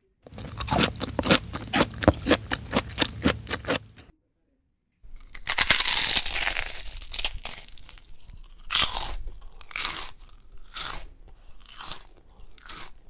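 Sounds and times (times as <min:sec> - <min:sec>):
puppy chewing crisp lettuce: 0:00.2 - 0:04.1, 0:05.1 - 0:13.0.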